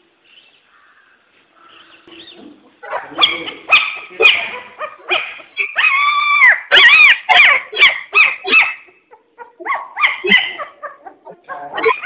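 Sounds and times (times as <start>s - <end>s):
puppies whining: 2.2s - 12.0s.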